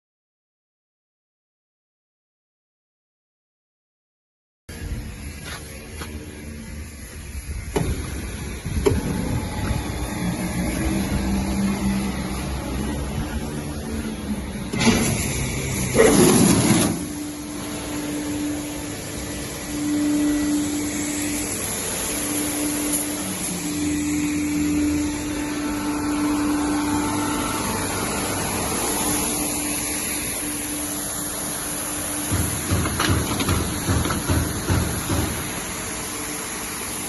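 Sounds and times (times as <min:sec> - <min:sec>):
washing machine running: 0:06.4 - 0:37.0.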